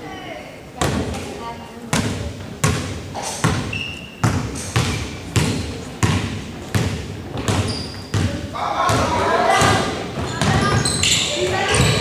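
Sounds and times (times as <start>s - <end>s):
basketball bouncing on gym floor: 0.8s - 1.3s, 1.9s - 12.0s.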